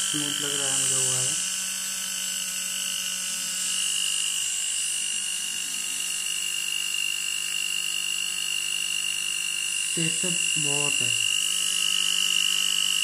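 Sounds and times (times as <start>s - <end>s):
grinder motor whining: 0.0s - 13.0s.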